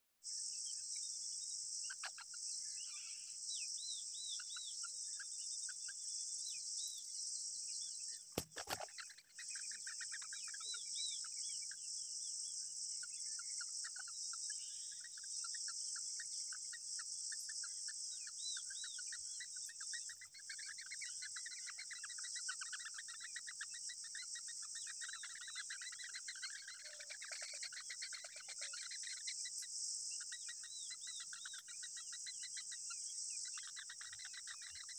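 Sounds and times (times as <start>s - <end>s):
insects droning: 0.2s - 34.9s
nestlings begging chirps: 1.8s - 34.9s.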